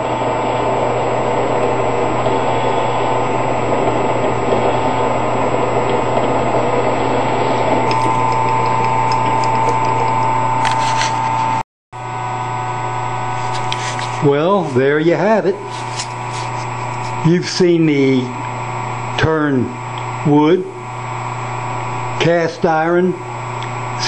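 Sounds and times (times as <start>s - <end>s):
lathe motor hum and whine: 0.0s - 24.0s.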